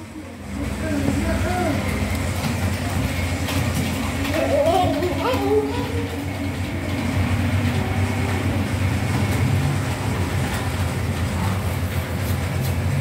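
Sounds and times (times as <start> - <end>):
model train hum and rumble: 0.0 - 13.0.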